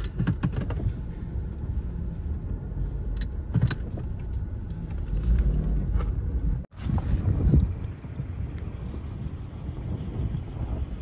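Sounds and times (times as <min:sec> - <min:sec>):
car interior hum: 0:00.0 - 0:11.0.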